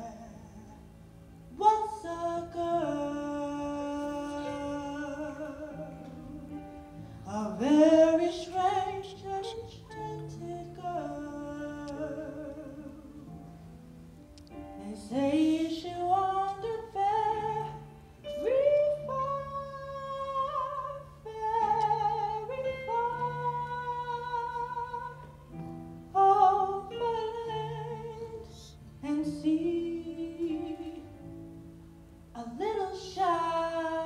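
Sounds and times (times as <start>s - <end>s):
woman singing slow melody: 0.0s - 13.7s, 14.4s - 31.6s, 32.3s - 34.0s.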